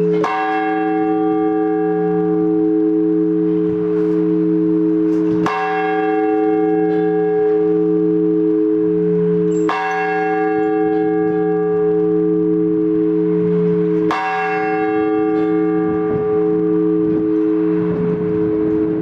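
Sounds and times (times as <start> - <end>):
large church bell ringing: 0.0 - 19.0.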